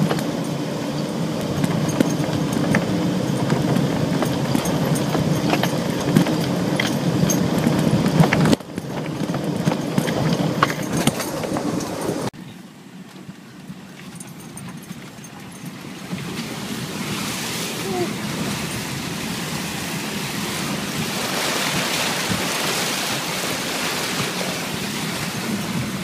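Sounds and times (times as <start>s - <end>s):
vehicle engine running: 0.0s - 21.5s.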